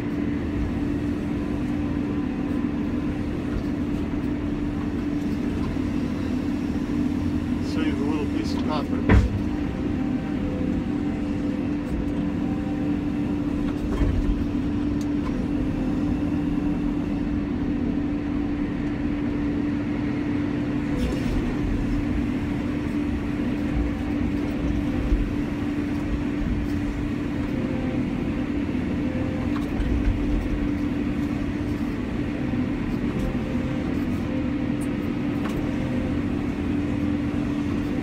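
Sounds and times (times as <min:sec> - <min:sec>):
excavator engine and hydraulics humming: 0:00.0 - 0:38.0.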